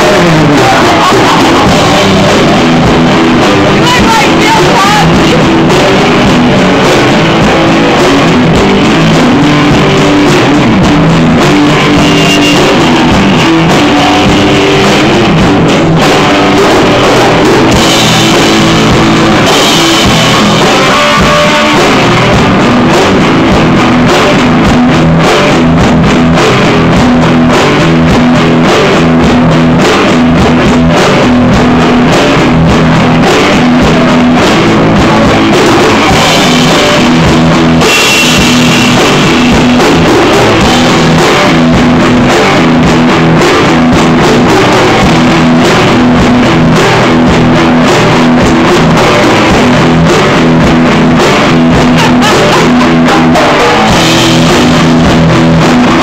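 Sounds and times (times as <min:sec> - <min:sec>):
drum kit with cymbals: 0:00.0 - 0:56.0
electric bass: 0:00.0 - 0:56.0.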